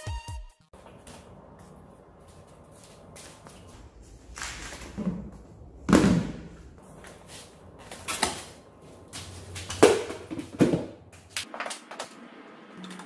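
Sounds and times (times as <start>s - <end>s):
tires thudding on tiled floor: 0.8s - 12.1s.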